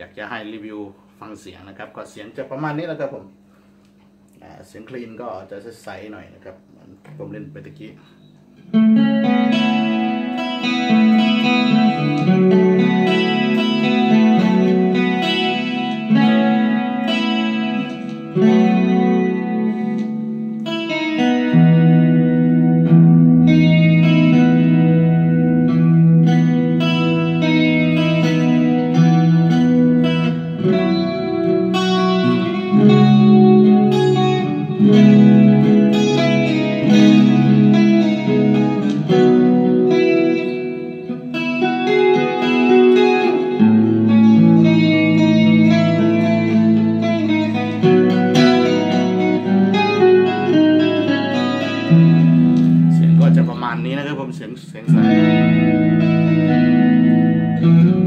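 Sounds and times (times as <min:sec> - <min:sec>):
electric guitar chords and arpeggios: 0:08.5 - 0:58.0.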